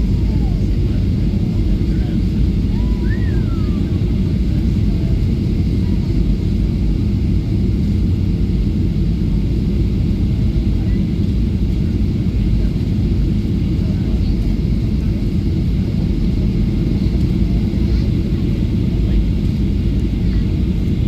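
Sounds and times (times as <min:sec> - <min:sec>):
jet cabin low rumble: 0:00.0 - 0:21.0.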